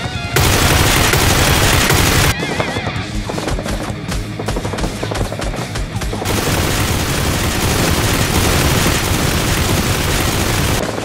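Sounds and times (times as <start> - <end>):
rapid gunfire: 0.4 - 2.4, 3.4 - 11.0.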